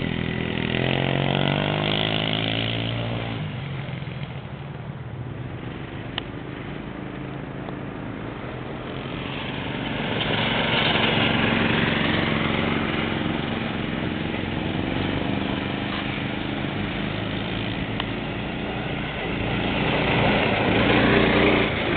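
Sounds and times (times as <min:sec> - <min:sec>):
buggy engine running: 0:00.0 - 0:21.9.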